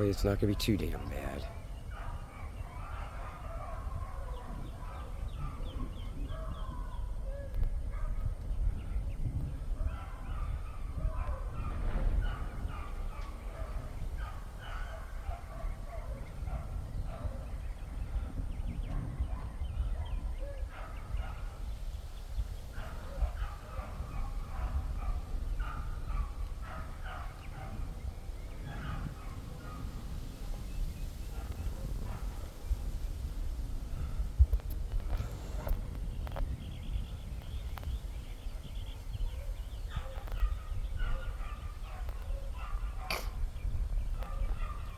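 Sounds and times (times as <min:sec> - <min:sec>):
birds chirping and calling: 0:00.0 - 0:29.9, 0:35.0 - 0:44.9.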